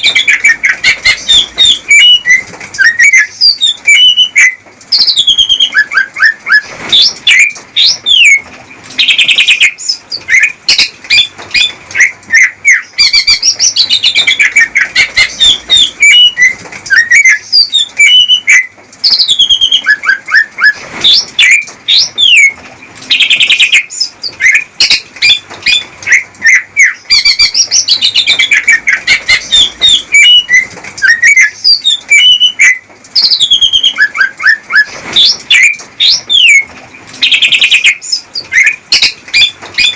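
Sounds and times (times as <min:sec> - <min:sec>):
bird singing whistled trills: 0:00.0 - 0:08.4, 0:09.0 - 0:39.9.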